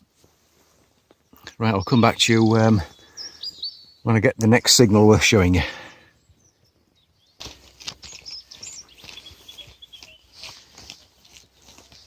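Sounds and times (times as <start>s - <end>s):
birds singing and chirping: 0.9s - 12.0s.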